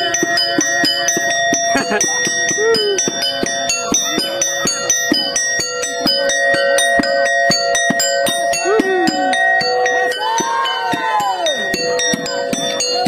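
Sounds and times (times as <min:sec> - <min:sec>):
metal gong-chime tones: 0:00.0 - 0:13.0.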